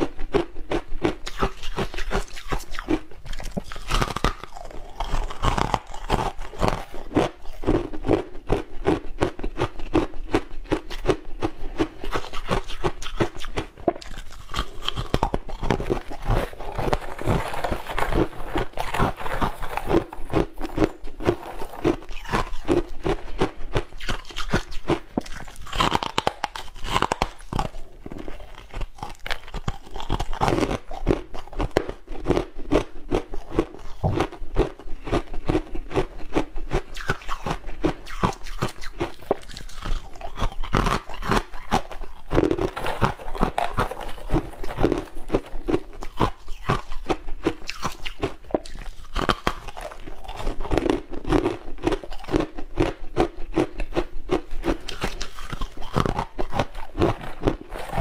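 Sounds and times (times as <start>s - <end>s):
chewing ice crunches: 0.0s - 58.0s.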